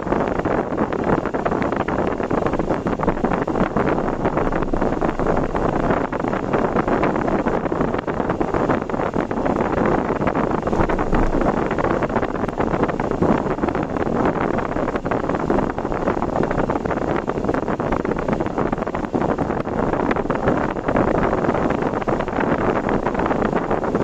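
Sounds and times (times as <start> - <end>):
wind buffeting microphone: 0.0 - 24.0
vehicle road noise: 0.4 - 24.0.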